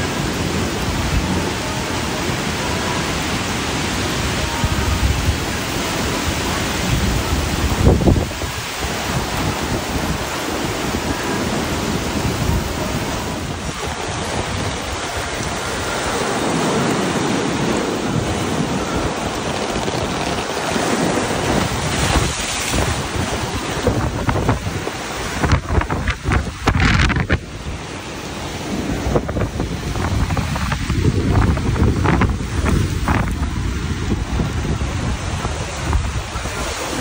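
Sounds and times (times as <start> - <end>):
rushing water: 0.0 - 37.0
wind buffeting microphone: 0.0 - 37.0.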